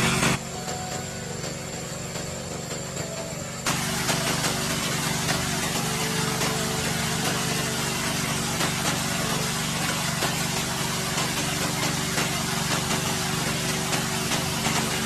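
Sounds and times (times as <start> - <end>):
constant hiss: 0.0 - 15.0
small engine running: 0.0 - 15.0.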